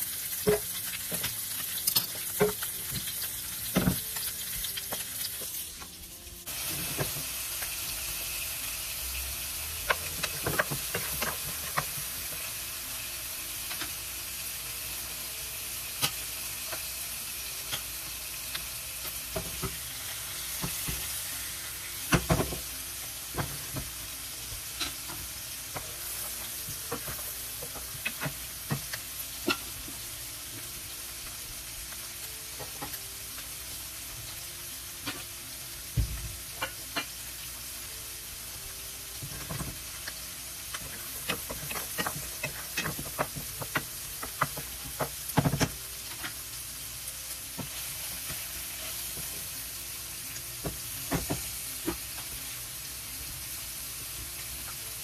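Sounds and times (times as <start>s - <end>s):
food sizzling in pans: 0.0s - 55.0s.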